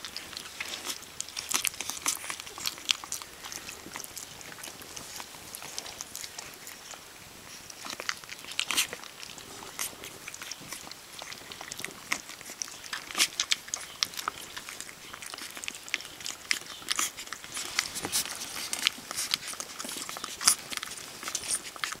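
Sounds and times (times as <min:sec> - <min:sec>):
puppy chewing and smacking: 0:00.0 - 0:22.0.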